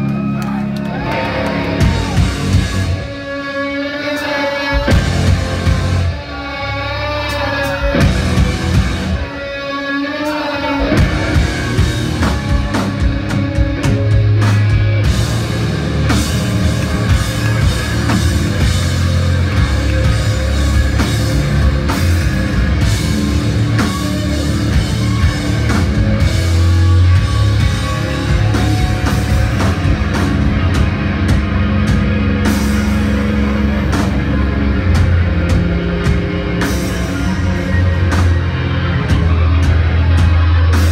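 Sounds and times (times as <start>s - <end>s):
bass guitar: 0.0s - 40.9s
distorted electric guitars: 0.0s - 40.9s
drums: 0.0s - 40.9s.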